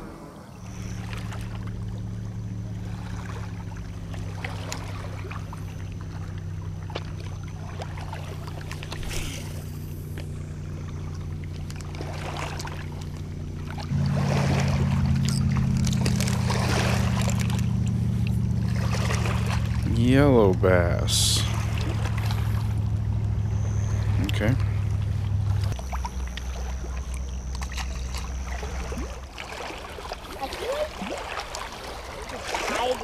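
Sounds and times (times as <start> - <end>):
motor droning: 0.0 - 30.6.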